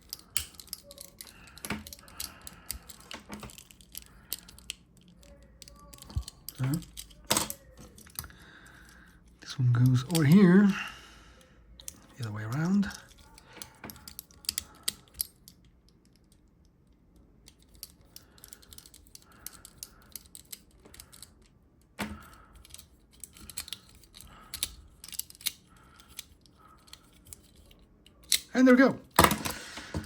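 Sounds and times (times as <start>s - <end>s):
plastic toy parts clicking: 0.0s - 9.0s, 12.8s - 28.5s.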